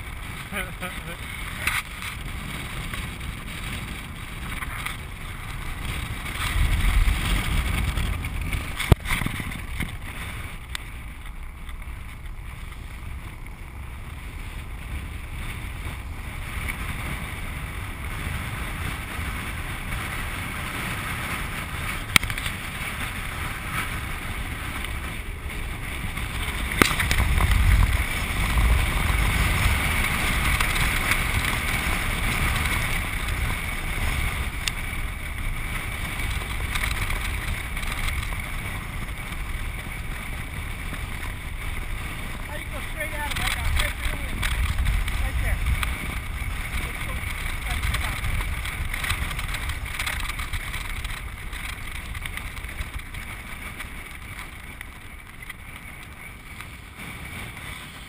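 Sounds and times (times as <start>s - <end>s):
deep rumble: 0.0s - 58.0s
wheels rolling over hard ground: 0.0s - 58.0s
wind on microphone: 0.0s - 58.0s.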